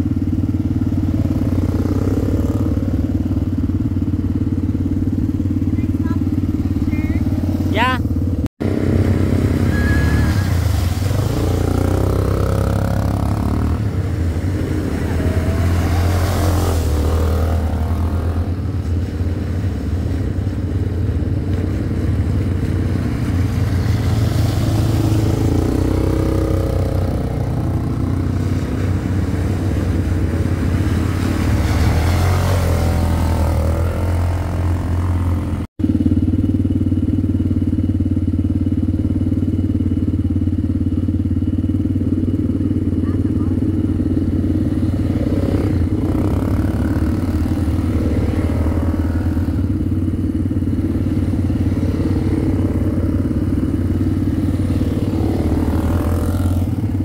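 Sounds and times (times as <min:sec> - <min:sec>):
passing traffic rushing: 0:00.0 - 0:36.0, 0:41.6 - 0:57.0
vehicle engine drone: 0:00.0 - 0:57.0.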